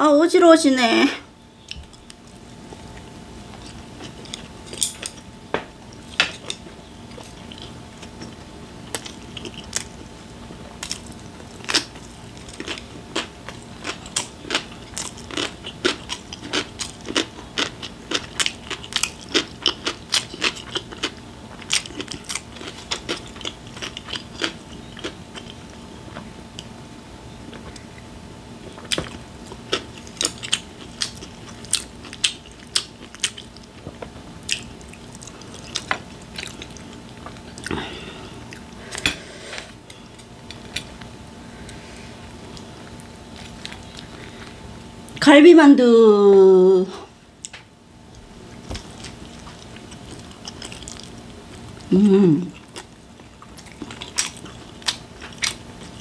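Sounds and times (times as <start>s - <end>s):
chewing crunchy food: 1.6s - 26.8s, 27.4s - 45.2s, 47.4s - 56.0s.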